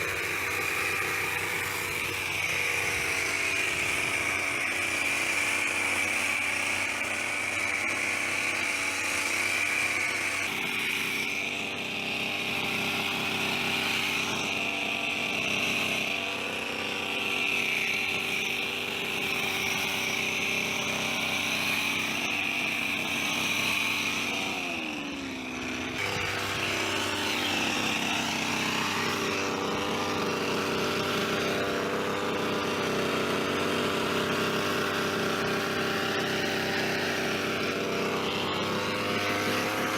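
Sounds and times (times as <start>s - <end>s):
hedge trimmer engine running: 0.0s - 39.9s.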